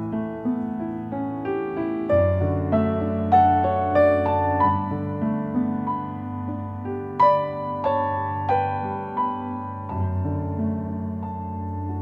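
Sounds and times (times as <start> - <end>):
slow gentle piano music: 0.0 - 12.0.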